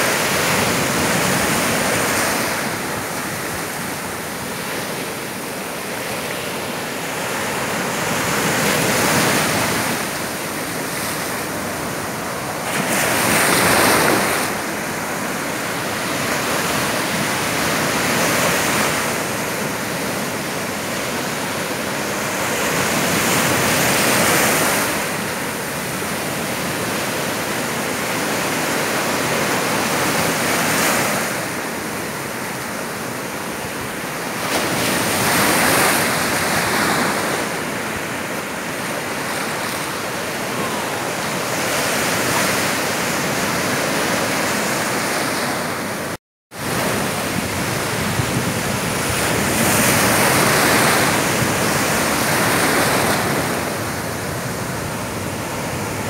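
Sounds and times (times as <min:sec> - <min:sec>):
stormy sea waves breaking: 0:00.0 - 0:56.0.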